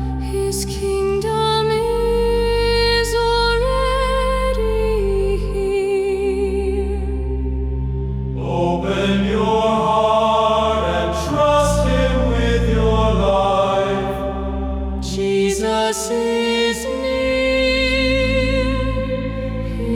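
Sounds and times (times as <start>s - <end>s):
choir holding sustained chords: 0.0s - 19.9s.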